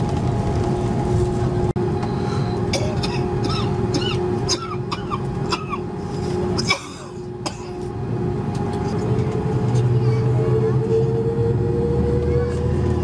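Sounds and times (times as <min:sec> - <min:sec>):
aircraft cabin hum: 0:00.0 - 0:13.0.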